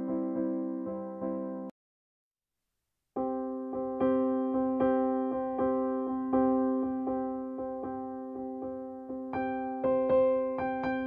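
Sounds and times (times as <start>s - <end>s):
piano-like keyboard notes: 0.0s - 1.7s, 3.2s - 11.0s.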